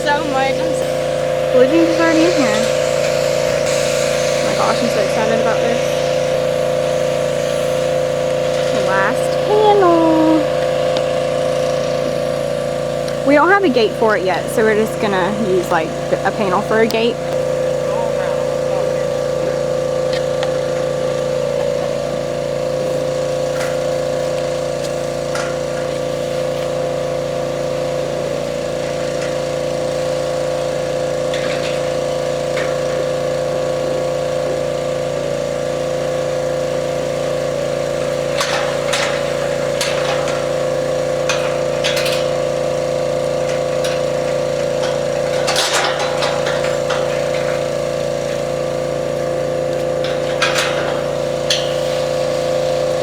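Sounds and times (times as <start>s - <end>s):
motor humming: 0.0s - 53.0s.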